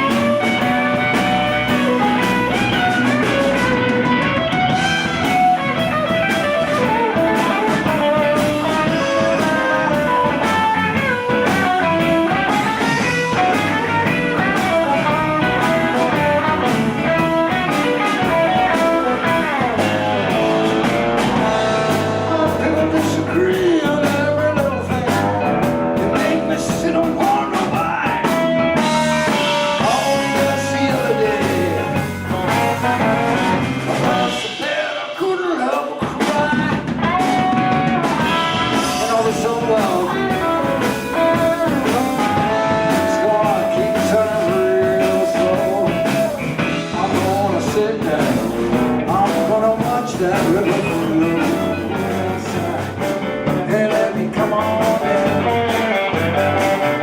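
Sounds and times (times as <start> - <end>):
guitar bending notes: 0.0 - 34.4, 37.0 - 49.7, 54.5 - 57.0
blues band playing: 0.0 - 57.0.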